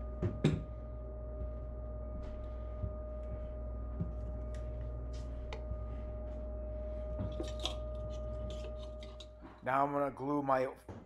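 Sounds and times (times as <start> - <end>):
low hum with high tone: 0.0 - 11.0.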